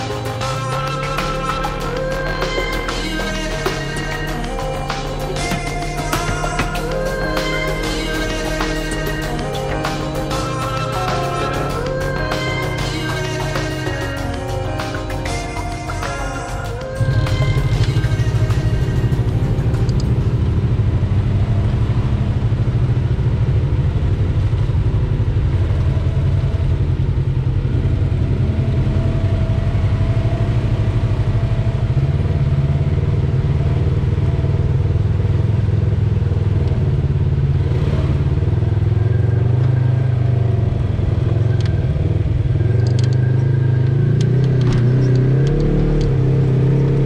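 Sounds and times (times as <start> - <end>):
utility vehicle engine running: 0.0 - 47.0.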